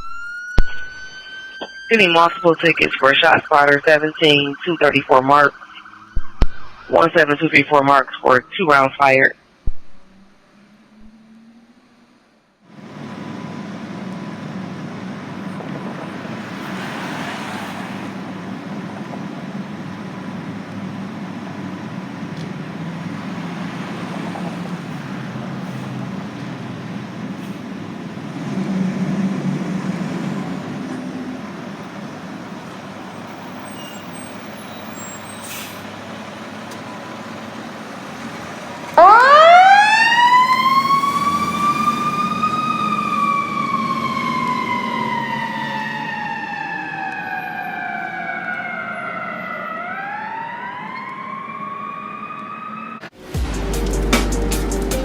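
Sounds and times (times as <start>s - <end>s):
fire engine siren wailing: 0.0s - 9.3s, 10.1s - 53.2s
road noise: 0.0s - 55.0s
truck engine rumble: 0.0s - 55.0s.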